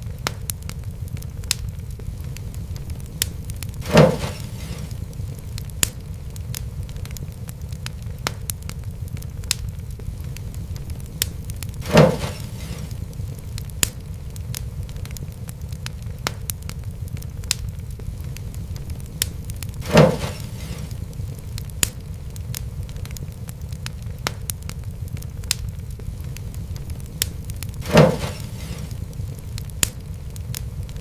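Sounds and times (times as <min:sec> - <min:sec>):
fire crackling: 0:00.0 - 0:31.0
fire pops and snaps: 0:00.0 - 0:31.0
low rumble of fire: 0:00.0 - 0:31.0.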